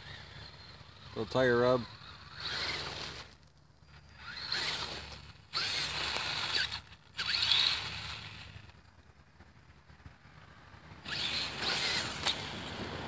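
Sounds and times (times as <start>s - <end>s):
rc truck motor whining: 0.0s - 9.5s, 11.0s - 13.0s
tires scrabbling over gravel: 0.0s - 13.0s.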